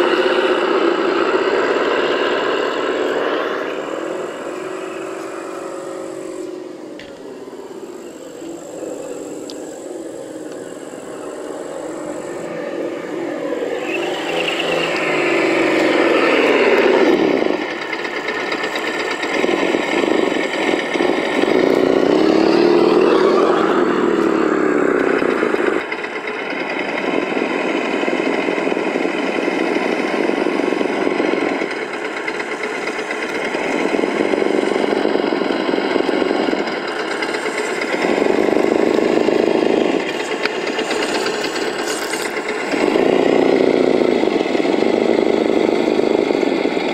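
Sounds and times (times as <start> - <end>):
simulated engine revving: 0.0 - 46.9.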